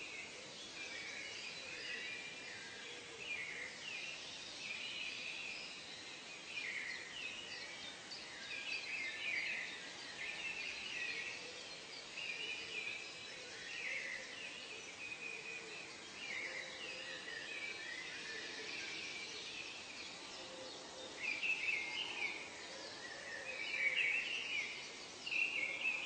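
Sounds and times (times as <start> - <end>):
outdoor ambient hiss: 0.0 - 26.0.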